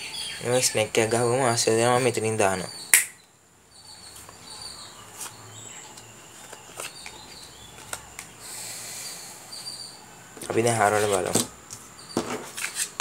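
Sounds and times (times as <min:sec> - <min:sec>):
faint birds chirping: 0:00.0 - 0:12.6.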